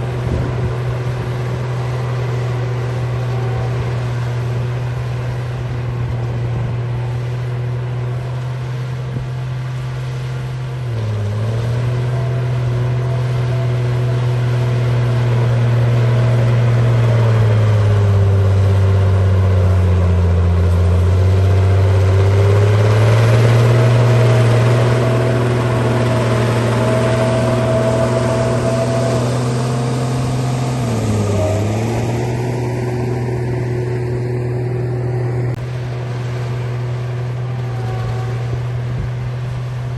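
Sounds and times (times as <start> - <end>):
bulldozer engine running: 0.0 - 39.9.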